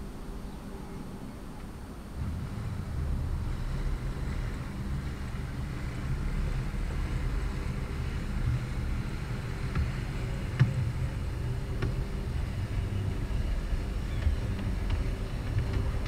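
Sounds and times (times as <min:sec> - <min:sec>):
model train low rumble: 0:00.0 - 0:16.0.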